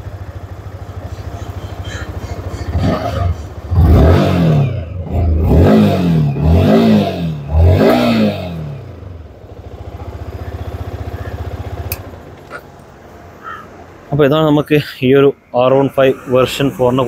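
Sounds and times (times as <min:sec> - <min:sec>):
motorcycle engine revving and idling: 0:00.0 - 0:14.2, 0:15.6 - 0:17.0.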